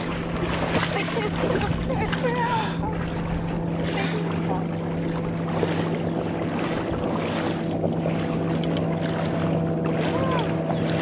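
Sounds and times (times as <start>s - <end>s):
motorboat engine droning: 0.0s - 11.0s
wind on microphone: 0.0s - 11.0s.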